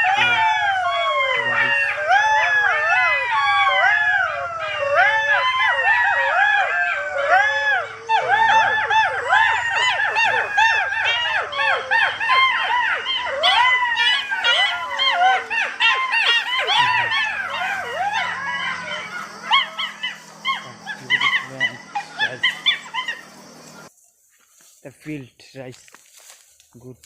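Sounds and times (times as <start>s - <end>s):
jackals howling in chorus: 0.0s - 23.9s.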